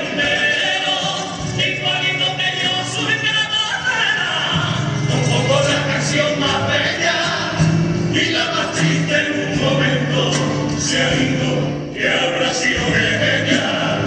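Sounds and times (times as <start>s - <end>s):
male choir singing: 0.0s - 14.0s
musical accompaniment: 0.0s - 14.0s.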